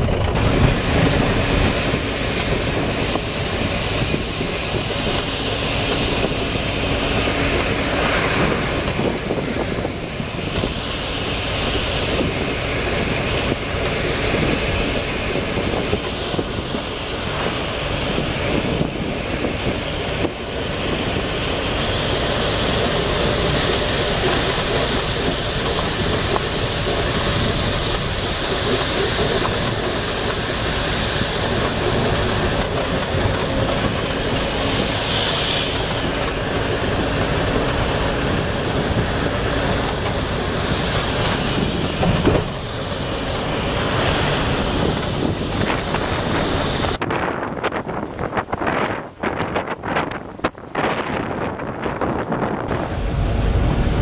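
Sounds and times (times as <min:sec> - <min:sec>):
vehicle interior running noise: 0:00.0 - 0:54.0.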